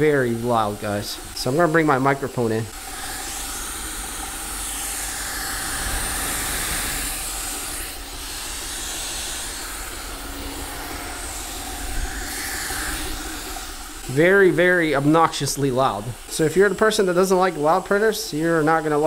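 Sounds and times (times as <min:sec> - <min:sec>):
cooling fans running: 0:00.0 - 0:19.0
stepper motor whine: 0:00.0 - 0:19.0.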